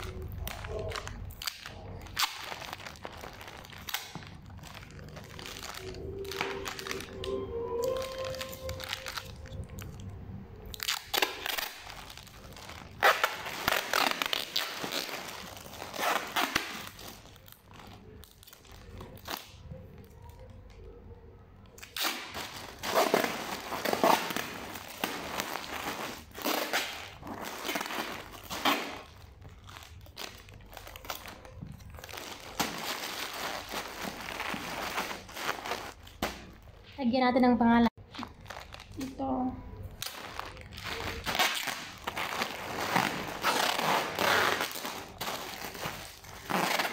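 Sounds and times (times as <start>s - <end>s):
packing tape ripping off roll: 0.0s - 10.0s, 10.7s - 19.6s, 21.8s - 36.7s, 40.0s - 46.9s
plastic crinkling: 0.0s - 21.0s, 21.7s - 36.9s, 38.0s - 46.9s.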